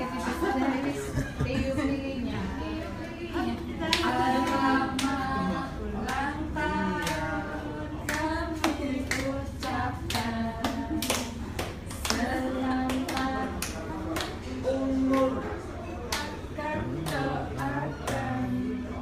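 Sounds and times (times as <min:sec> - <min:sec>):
group singing: 0:00.0 - 0:19.0
people clapping: 0:03.0 - 0:18.8.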